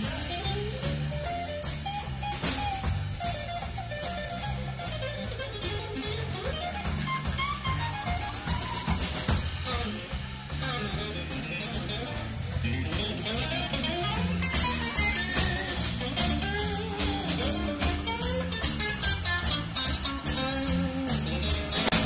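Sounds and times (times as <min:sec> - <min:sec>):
drum kit and cymbals: 0:00.0 - 0:22.0
electric bass: 0:00.0 - 0:22.0
electric guitar melody: 0:00.0 - 0:22.0.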